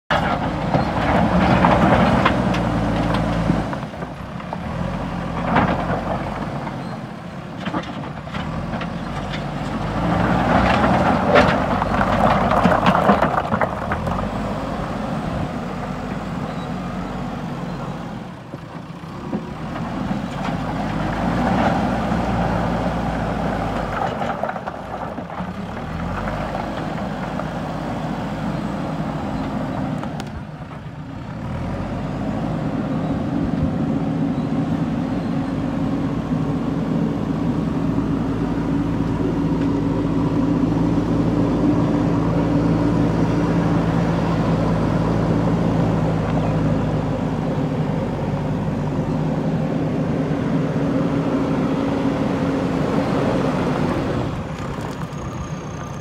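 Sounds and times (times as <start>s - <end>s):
diesel engine working under load: 0.1s - 56.0s.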